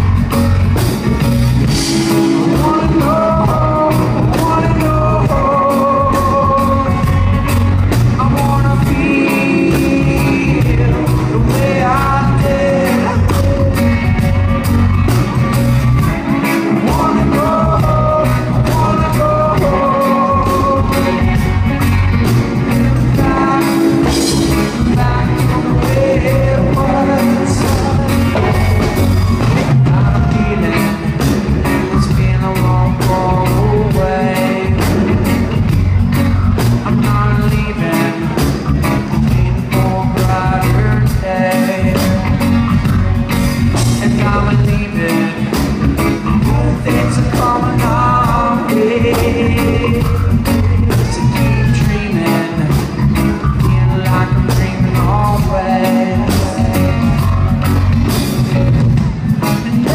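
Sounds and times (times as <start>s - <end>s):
drums and bass beat: 0.0s - 59.9s
electric guitar: 0.0s - 59.9s
person singing: 0.0s - 59.9s.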